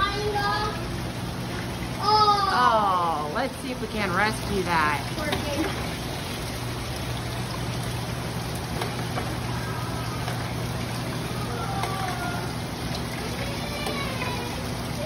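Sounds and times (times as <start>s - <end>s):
steady low hum: 0.0s - 15.0s
water trickling down plastic chutes: 0.0s - 15.0s.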